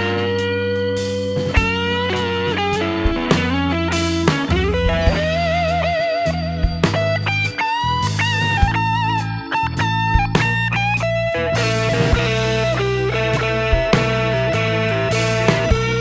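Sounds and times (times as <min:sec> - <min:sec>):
bass and drums: 0:00.0 - 0:16.0
blues-rock electric guitar: 0:00.0 - 0:16.0.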